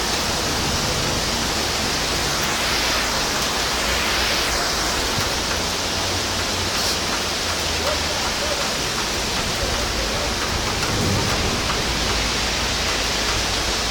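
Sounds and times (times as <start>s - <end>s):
heavy rain and hail falling: 0.0s - 13.9s.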